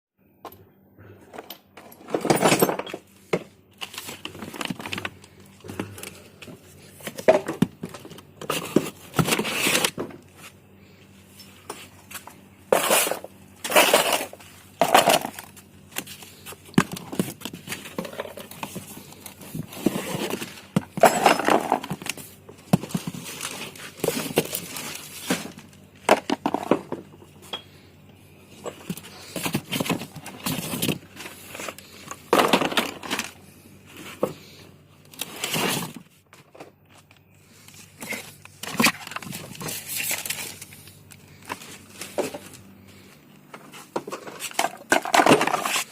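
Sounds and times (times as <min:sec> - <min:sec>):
metal and plastic parts clattering: 0:01.3 - 0:10.3, 0:11.3 - 0:27.8, 0:28.5 - 0:33.4, 0:37.8 - 0:42.7, 0:43.5 - 0:45.9.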